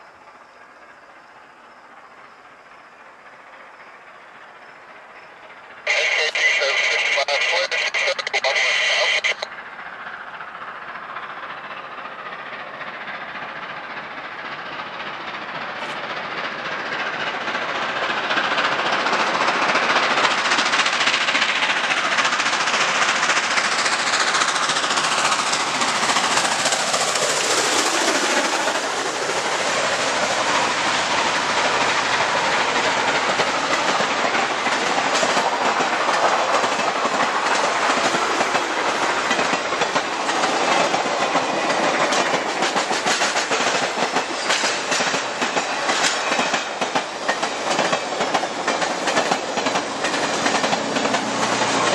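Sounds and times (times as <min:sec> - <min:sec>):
steam locomotive passing: 0:00.0 - 0:51.9
train wheels clattering over rail joints: 0:10.3 - 0:51.9.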